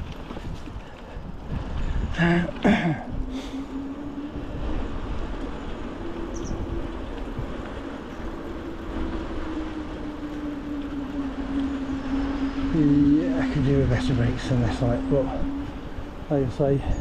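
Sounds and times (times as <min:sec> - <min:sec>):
bike tyre noise: 0:00.0 - 0:17.0
rushing wind: 0:00.0 - 0:17.0.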